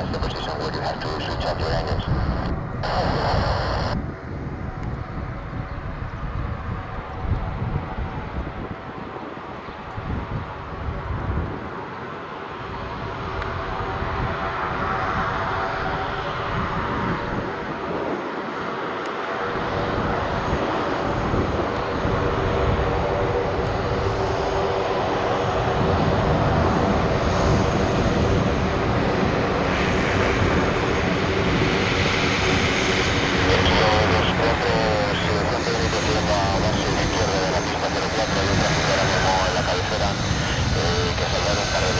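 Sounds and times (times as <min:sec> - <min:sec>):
turboprop engines droning: 0:00.0 - 0:41.9.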